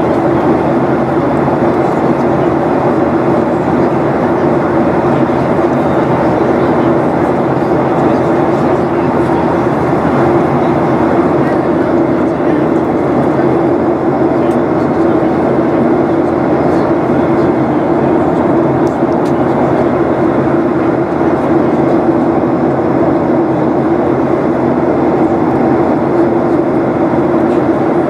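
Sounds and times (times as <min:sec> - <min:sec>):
jet engines cabin drone: 0:00.0 - 0:28.0.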